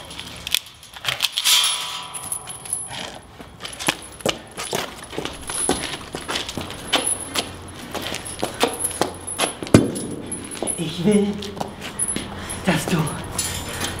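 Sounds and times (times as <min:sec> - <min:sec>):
metal clinking and jangling: 0:00.5 - 0:14.0.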